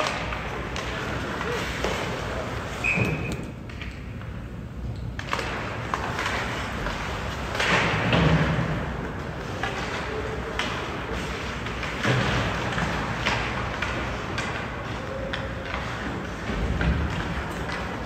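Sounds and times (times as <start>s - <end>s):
puck and sticks hitting boards: 0.0s - 4.1s, 5.2s - 18.0s.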